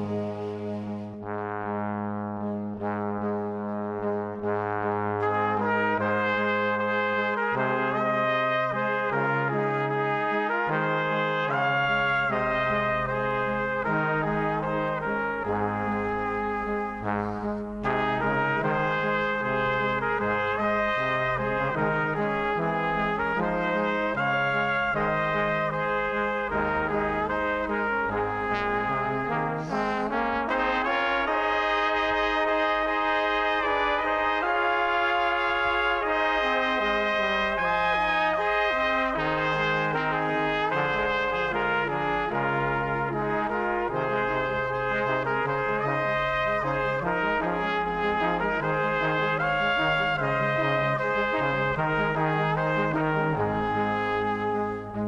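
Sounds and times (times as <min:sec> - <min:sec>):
brass band playing a march: 0:00.0 - 0:55.0.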